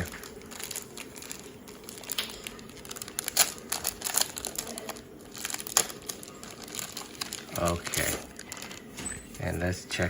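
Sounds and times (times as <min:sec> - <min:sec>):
card packaging being opened: 0:00.0 - 0:09.0.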